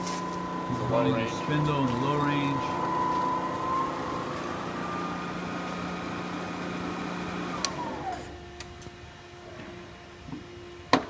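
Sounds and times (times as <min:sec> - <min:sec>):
mill spindle whining: 0:00.0 - 0:11.0.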